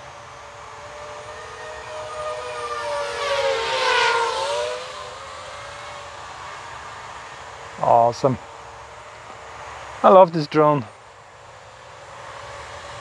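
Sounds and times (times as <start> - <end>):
drone propellers whining: 0.0 - 10.7.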